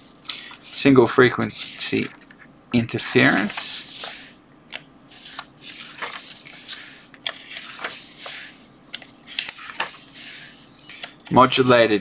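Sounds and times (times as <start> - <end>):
book pages rustling: 0.5 - 2.4, 3.2 - 4.4, 5.1 - 12.0.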